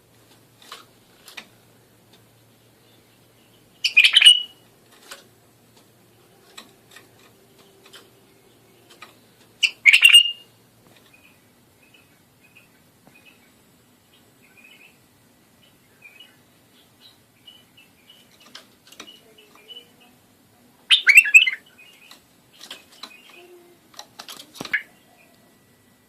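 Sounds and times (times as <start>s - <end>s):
bird chirping: 2.4s - 20.2s, 20.8s - 26.0s
bird singing: 2.5s - 5.2s, 5.8s - 20.2s, 20.8s - 26.0s.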